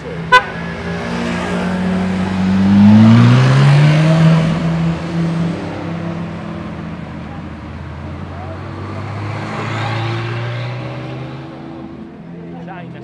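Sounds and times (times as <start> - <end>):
sports car engine accelerating: 0.0 - 13.0.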